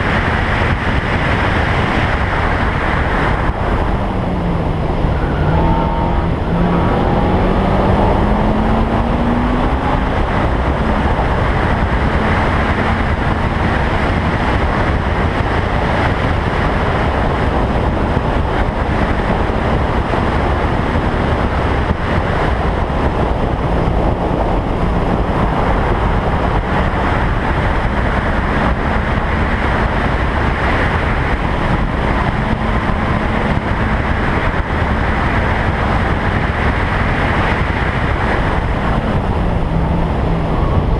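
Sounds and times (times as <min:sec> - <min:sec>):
race car engine: 0:00.0 - 0:40.9
wind rush over microphone: 0:00.0 - 0:40.9.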